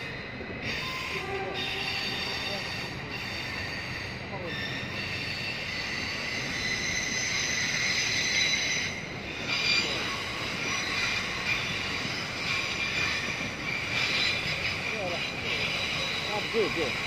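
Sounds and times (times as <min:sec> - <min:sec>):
train rolling noise: 0:00.0 - 0:17.0
high squealing tones: 0:00.1 - 0:17.0.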